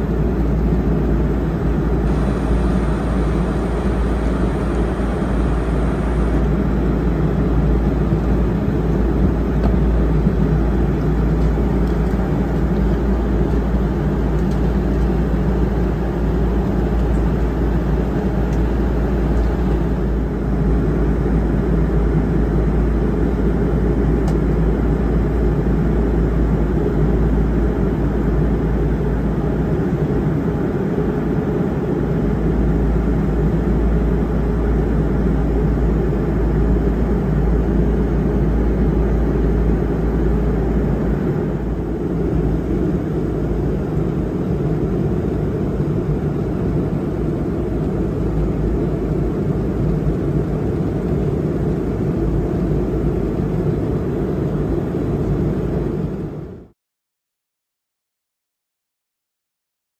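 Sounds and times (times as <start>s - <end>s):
airliner cabin engine drone: 0.0s - 56.8s.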